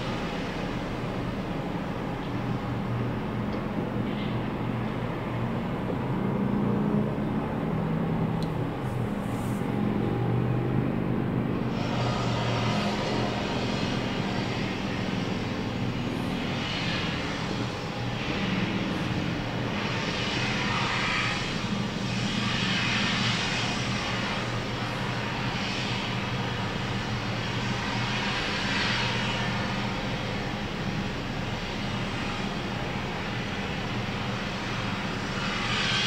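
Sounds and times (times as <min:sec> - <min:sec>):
engine drone: 0:00.0 - 0:36.0.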